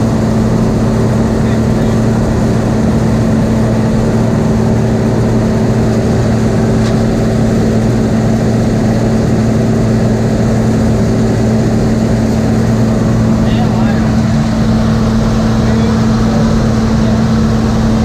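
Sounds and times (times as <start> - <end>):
harvester engine running: 0.0 - 18.0.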